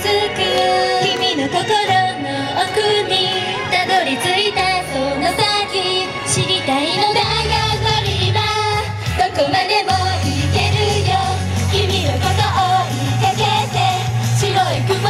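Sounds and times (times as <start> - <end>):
women singing pop song: 0.0 - 15.0
backing track with bass line: 2.8 - 15.0.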